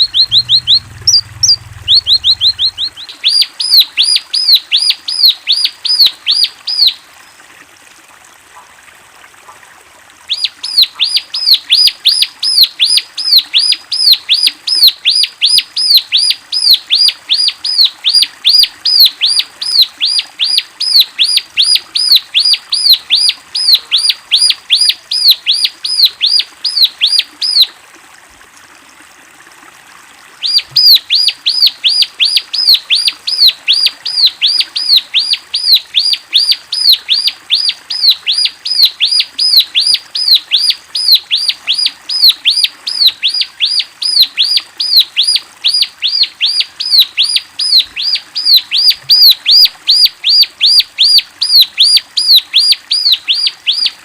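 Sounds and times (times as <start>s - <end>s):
songbird chirping: 0.0s - 7.0s, 10.3s - 27.7s, 30.4s - 54.0s.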